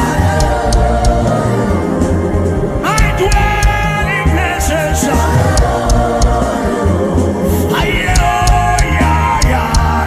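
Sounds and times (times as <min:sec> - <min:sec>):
band playing: 0:00.0 - 0:10.0.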